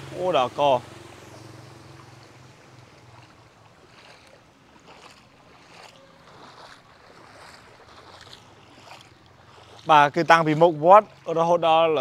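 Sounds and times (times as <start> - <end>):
floodwater sloshing and lapping: 0.0 - 12.0.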